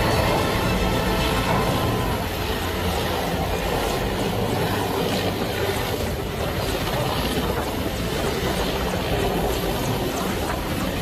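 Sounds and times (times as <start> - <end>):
helicopter hovering: 0.0 - 11.0.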